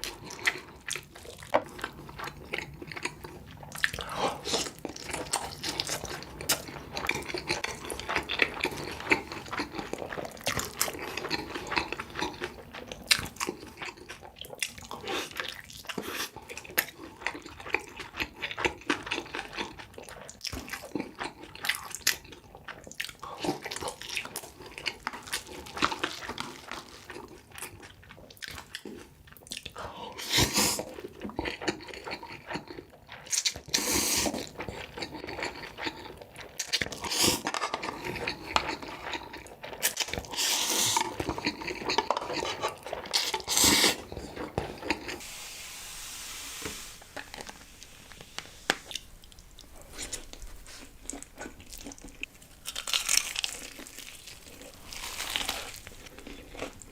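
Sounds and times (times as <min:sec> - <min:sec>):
person chewing noodles: 0:00.0 - 0:45.3, 0:47.0 - 0:56.9.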